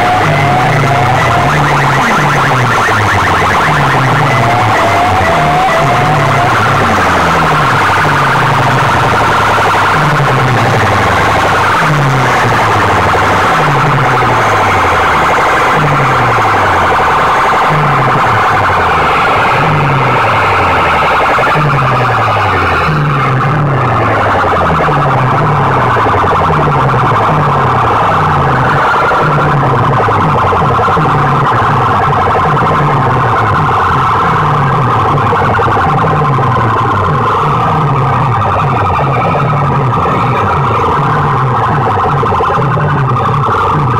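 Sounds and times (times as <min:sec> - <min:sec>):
siren-like electronic blare: 0:00.0 - 0:43.9.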